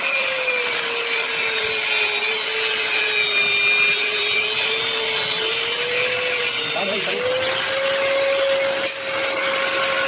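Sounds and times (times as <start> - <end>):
electric power tool running: 0.0 - 10.0.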